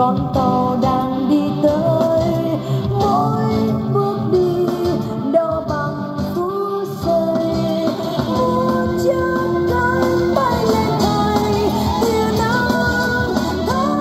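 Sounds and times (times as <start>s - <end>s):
song with singing and instruments: 0.0s - 14.0s.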